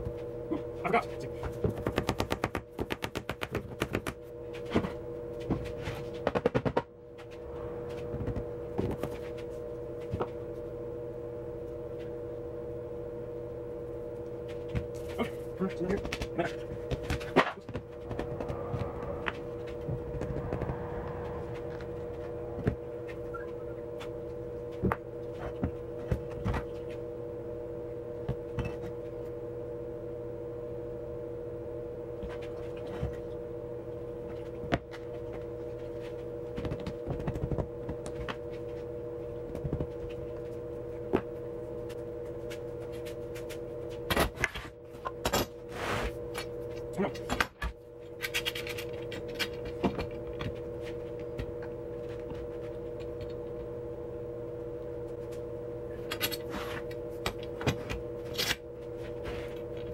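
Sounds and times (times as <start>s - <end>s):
workshop hum: 0.0s - 59.9s.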